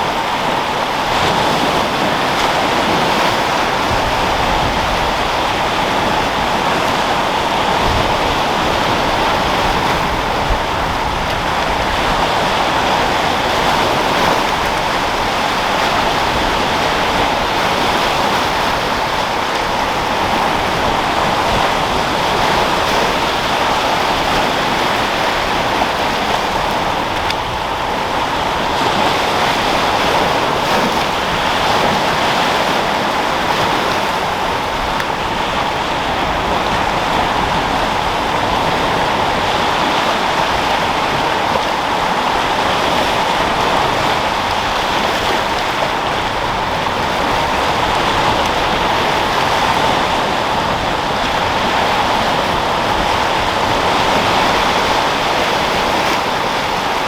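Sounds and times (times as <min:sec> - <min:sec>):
sea waves rolling: 0:00.0 - 0:57.0
wind: 0:00.0 - 0:57.0.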